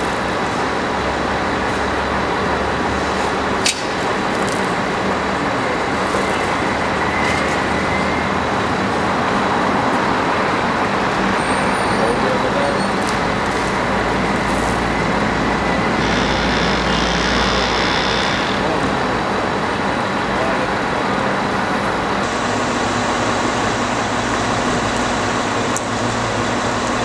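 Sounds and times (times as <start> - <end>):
crane engine running: 0.0 - 27.0.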